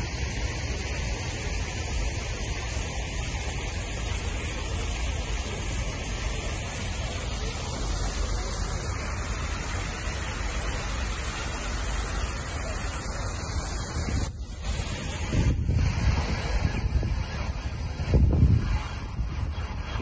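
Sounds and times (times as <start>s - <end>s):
city traffic rumble: 0.0s - 20.0s
fountain jets splashing: 0.0s - 20.0s.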